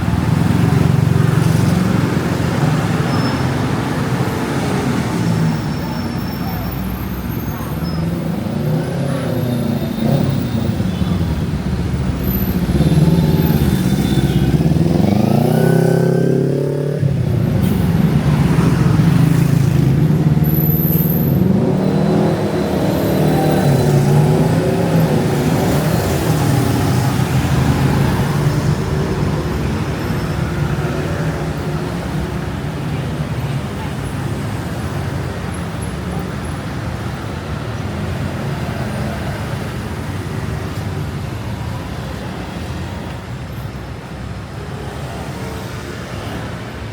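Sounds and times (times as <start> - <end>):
vehicle engines running: 0.0 - 46.9
vehicles passing: 0.0 - 46.9.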